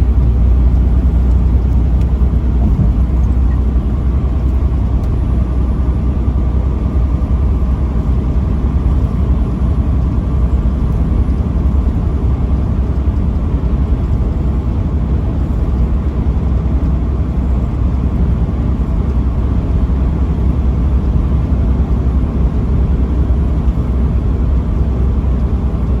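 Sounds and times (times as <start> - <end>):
vehicle driving rumble: 0.0 - 26.0.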